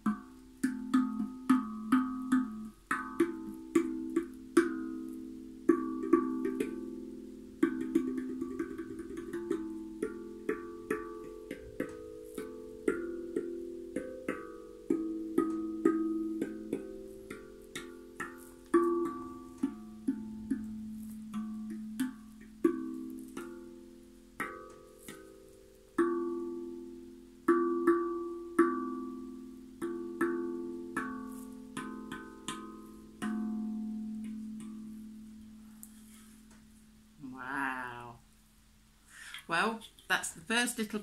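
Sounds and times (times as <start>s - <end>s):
steel tongue drum notes: 0.0s - 38.2s.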